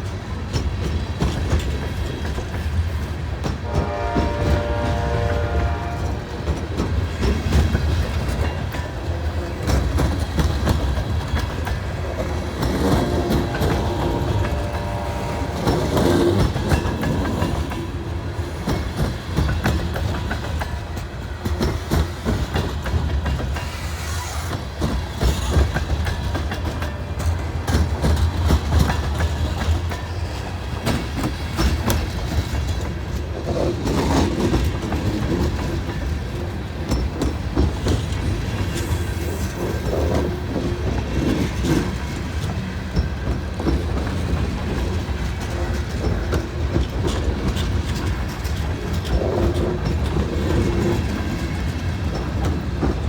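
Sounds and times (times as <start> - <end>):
train rumble: 0.0 - 53.0
train wheels clacking over rail joints: 0.0 - 53.0.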